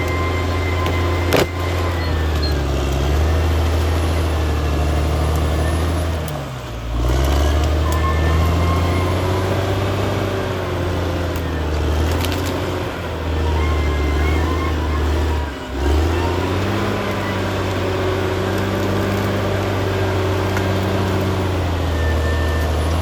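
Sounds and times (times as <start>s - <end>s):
bulldozer diesel engine drone: 0.0s - 23.0s.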